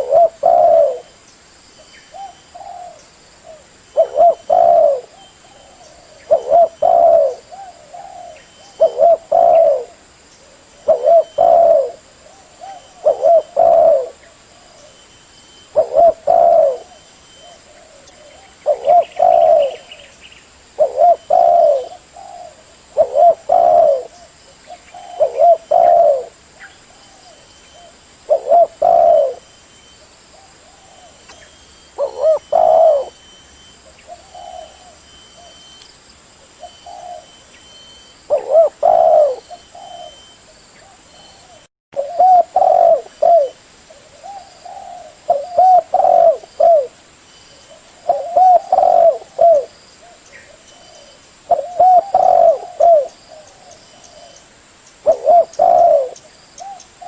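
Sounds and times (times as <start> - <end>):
doves cooing: 0.0 - 1.2, 2.1 - 20.1, 20.8 - 35.8, 36.5 - 57.0.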